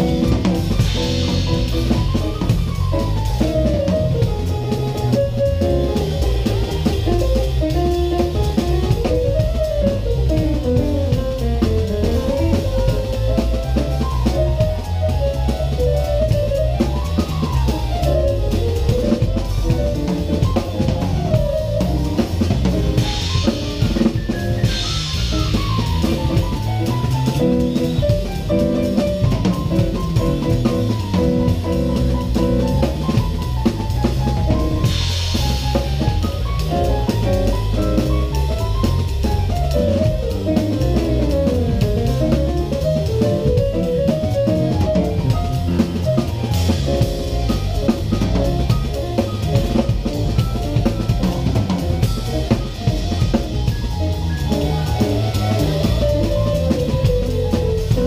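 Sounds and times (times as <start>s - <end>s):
drum kit with cymbals: 0.0s - 58.0s
electric bass line: 0.0s - 58.0s
lead melody with sliding notes: 0.0s - 58.0s.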